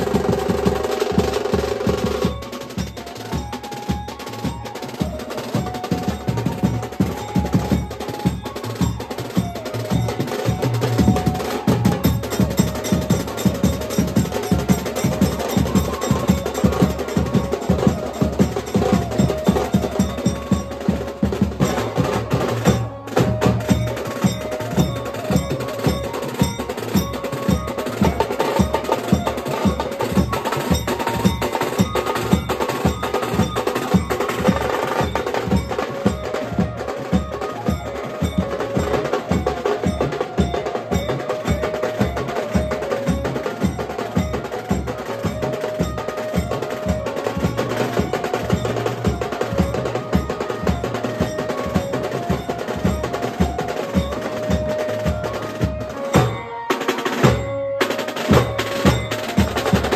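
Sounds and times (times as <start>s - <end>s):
band melody line: 0.0s - 59.9s
drums beating fast rhythm: 0.0s - 59.9s.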